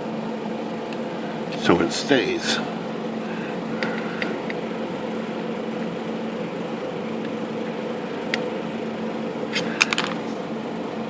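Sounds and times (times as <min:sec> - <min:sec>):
shop machinery hum: 0:00.0 - 0:11.0.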